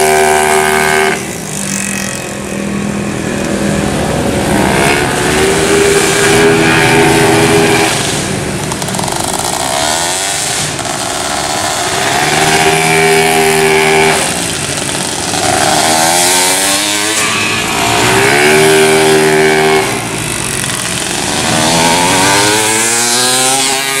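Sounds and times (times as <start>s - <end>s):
scooter engines revving: 0.0s - 24.0s.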